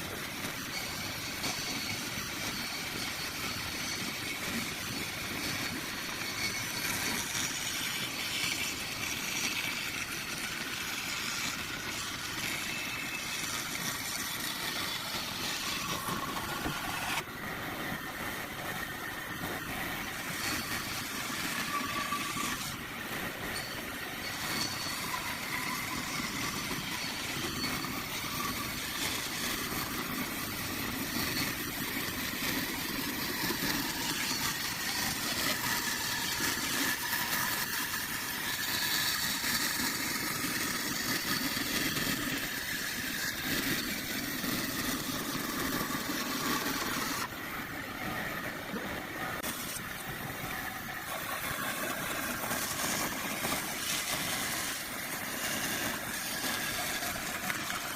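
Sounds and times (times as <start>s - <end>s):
power tool motor running: 0.0s - 17.3s, 18.7s - 47.3s, 49.4s - 57.9s.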